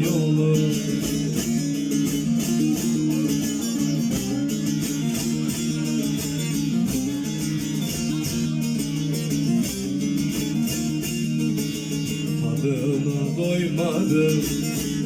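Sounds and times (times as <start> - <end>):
long-necked lute plucked notes: 0.0 - 15.0.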